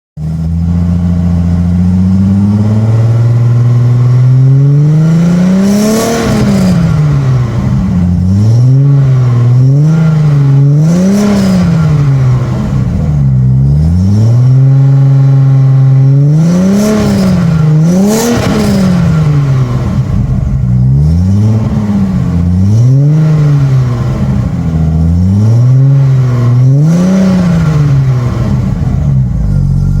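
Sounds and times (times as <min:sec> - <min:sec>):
car engine idling and revving: 0:00.2 - 0:30.0.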